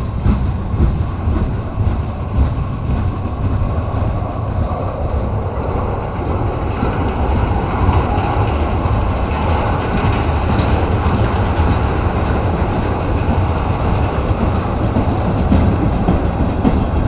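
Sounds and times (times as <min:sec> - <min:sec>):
freight train rumbling past: 0:00.0 - 0:17.0
wheels clattering over rail joints: 0:00.0 - 0:17.0.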